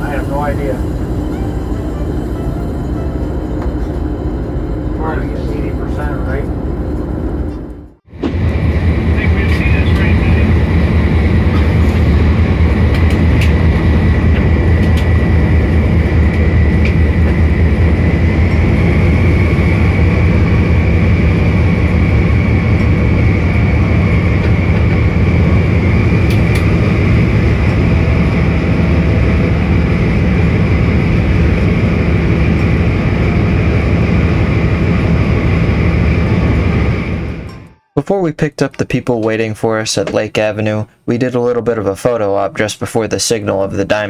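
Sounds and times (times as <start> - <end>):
thin high whine: 0.0 - 38.2
diesel locomotive rumble: 0.0 - 39.4.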